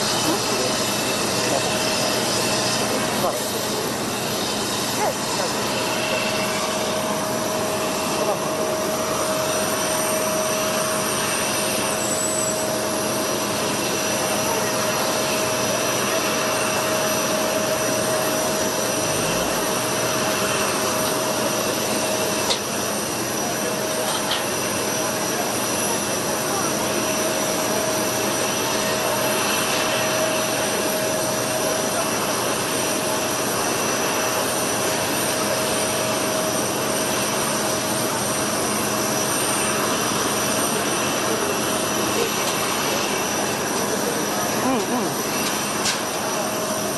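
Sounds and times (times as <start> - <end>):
jet turbine roaring and whining: 0.0 - 46.9.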